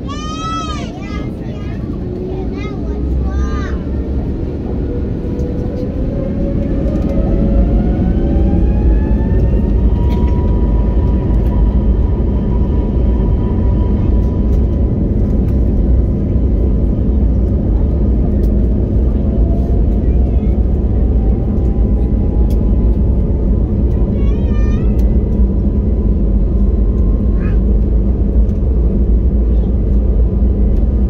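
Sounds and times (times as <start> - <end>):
jet engine whine: 0.0 - 31.0
loud continuous rumble: 0.0 - 31.0.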